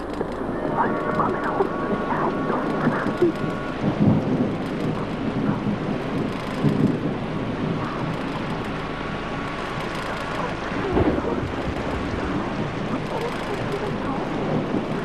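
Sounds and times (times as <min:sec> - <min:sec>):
deep low rumble: 0:00.0 - 0:15.0.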